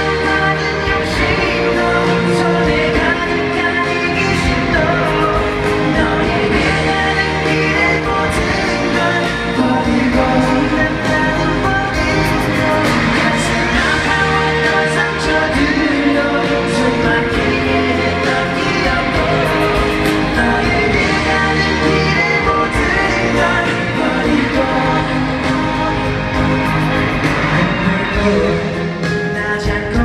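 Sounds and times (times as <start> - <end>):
live pop band with singing: 0.0 - 30.0.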